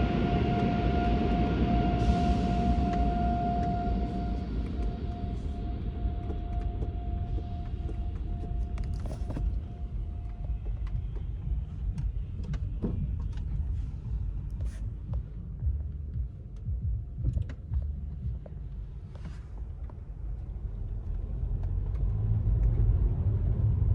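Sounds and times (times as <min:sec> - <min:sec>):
car wash equipment rumbling: 0:00.0 - 0:23.9.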